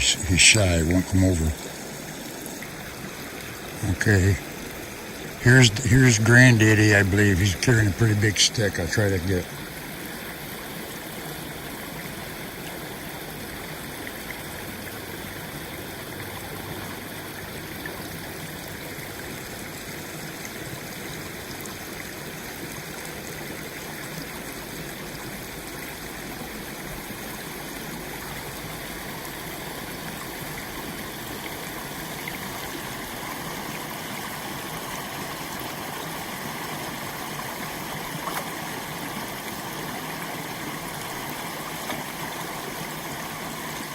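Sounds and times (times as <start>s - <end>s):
water rushing and gurgling: 0.0s - 43.9s.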